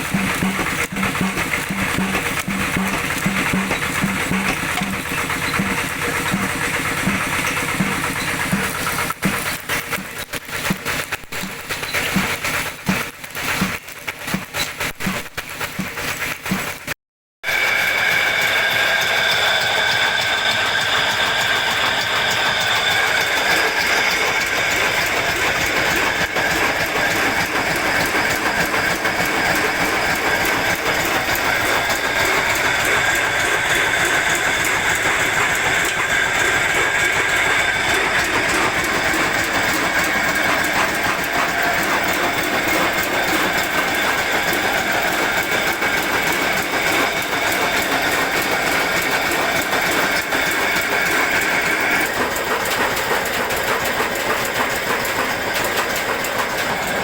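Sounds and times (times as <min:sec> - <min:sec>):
tractor engine clattering: 0:00.0 - 0:57.0.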